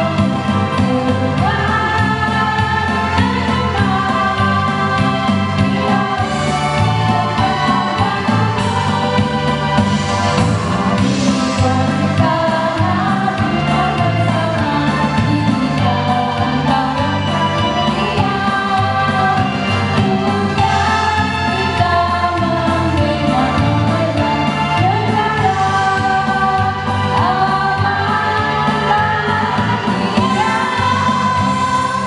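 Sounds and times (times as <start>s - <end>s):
instrumental accompaniment with bass: 0.0s - 32.0s
women singing together: 0.0s - 32.0s.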